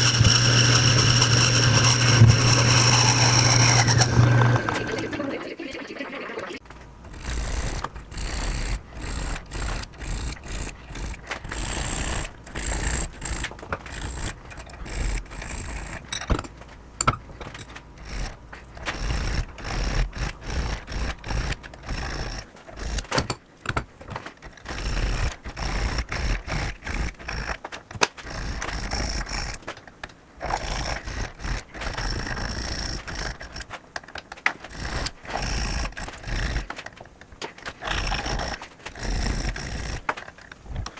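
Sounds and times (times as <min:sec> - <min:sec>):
hand file scraping metal: 0:00.0 - 0:05.3, 0:07.0 - 0:16.3, 0:17.4 - 0:23.4, 0:24.5 - 0:29.8, 0:30.4 - 0:40.6.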